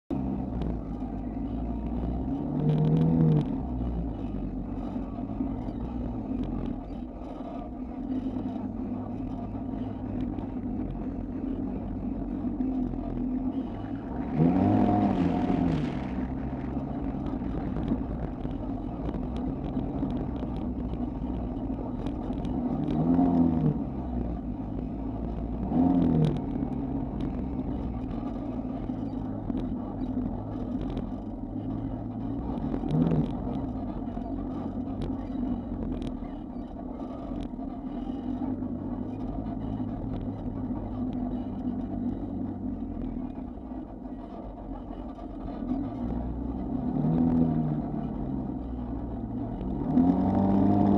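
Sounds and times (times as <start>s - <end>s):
off-road vehicle engine revving: 0.1s - 50.9s.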